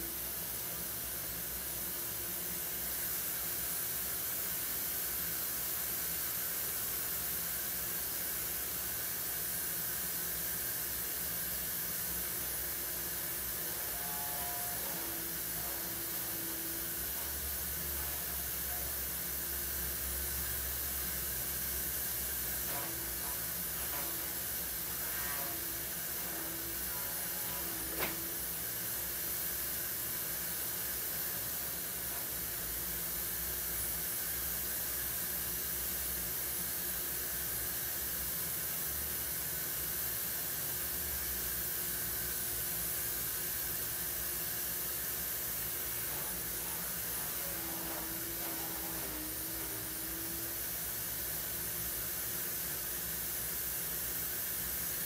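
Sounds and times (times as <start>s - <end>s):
room tone hiss: 0.0s - 55.0s.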